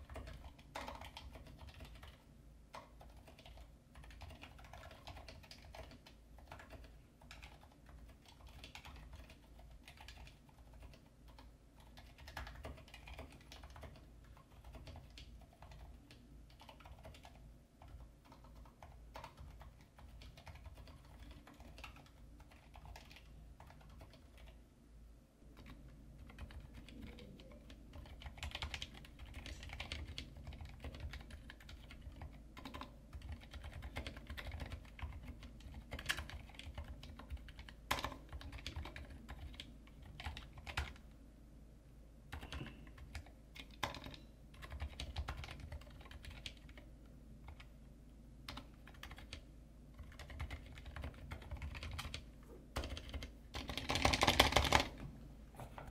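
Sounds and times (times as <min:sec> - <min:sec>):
muted keyboard typing: 0:00.0 - 0:24.6, 0:25.5 - 0:41.0, 0:42.3 - 0:47.7, 0:48.4 - 0:55.9.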